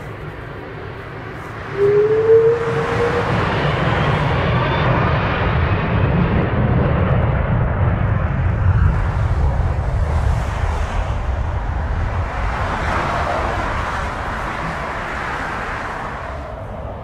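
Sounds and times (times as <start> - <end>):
jet engines at takeoff: 0.0 - 17.0.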